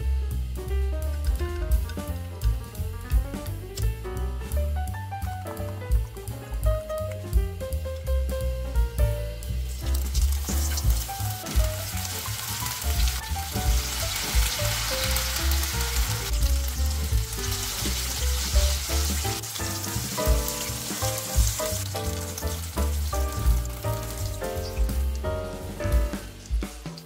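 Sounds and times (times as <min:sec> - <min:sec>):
background music with a beat: 0:00.0 - 0:27.0
food deep-frying in oil: 0:00.2 - 0:27.0.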